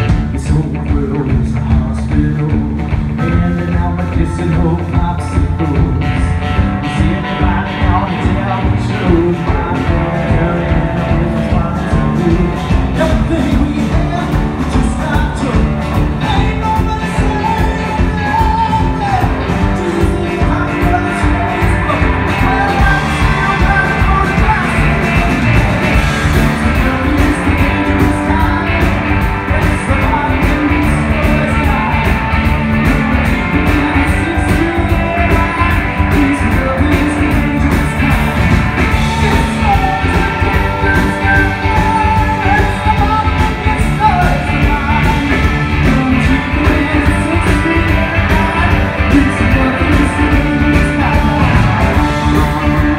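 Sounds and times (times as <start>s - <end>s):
bass guitar: 0.0s - 52.9s
drums: 0.0s - 52.9s
electric guitars: 0.0s - 52.9s
person singing lead vocals: 0.0s - 52.9s.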